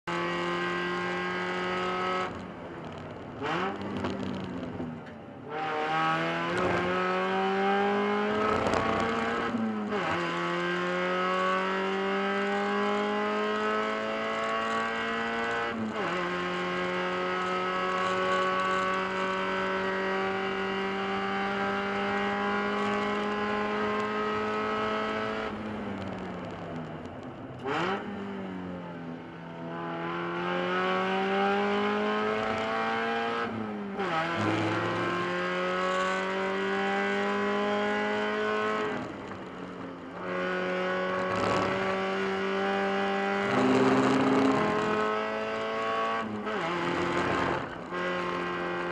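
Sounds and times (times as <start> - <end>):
car engine at full throttle: 0.0 - 48.9.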